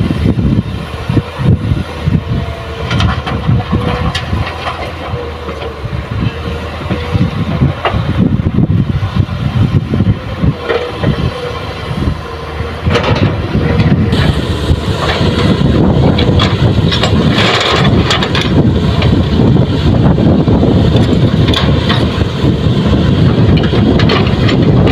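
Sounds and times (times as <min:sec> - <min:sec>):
heavy diesel machinery running: 0:00.0 - 0:24.9.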